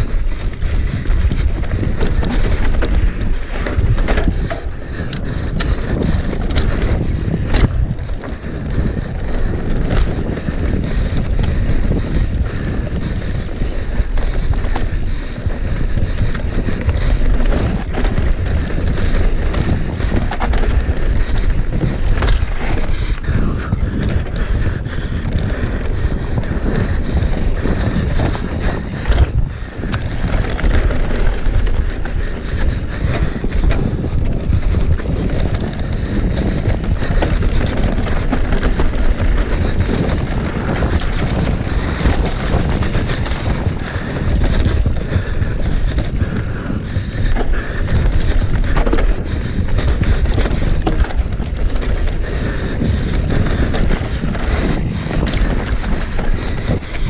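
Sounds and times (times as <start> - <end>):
bike knocking and rattling: 0.0 - 57.0
wind rushing over microphone: 0.0 - 57.0.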